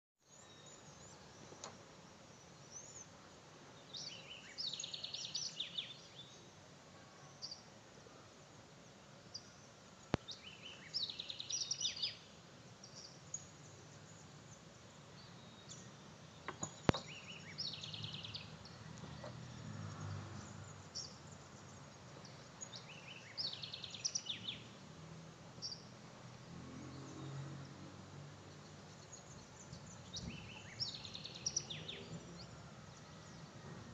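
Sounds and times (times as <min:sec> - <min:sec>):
outdoor background noise: 0:00.2 - 0:33.9
songbird singing: 0:00.2 - 0:33.9.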